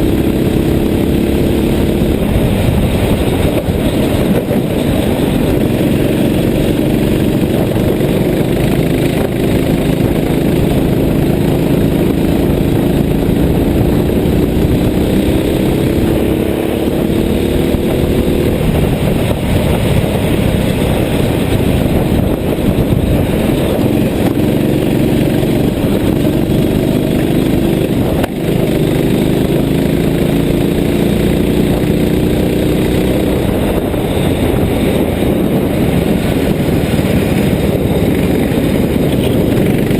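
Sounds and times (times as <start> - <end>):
road noise rushing: 0.0 - 39.9
vehicle engine rising in pitch: 0.0 - 39.9.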